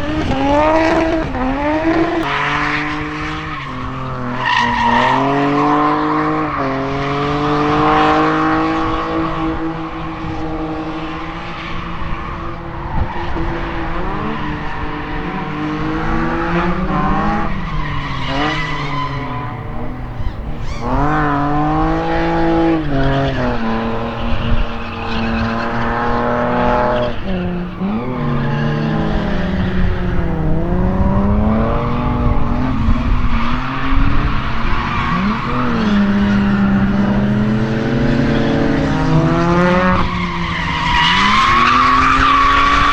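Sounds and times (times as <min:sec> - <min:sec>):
car engine revving hard: 0:00.0 - 0:42.9
tyres squealing and skidding: 0:00.0 - 0:42.9.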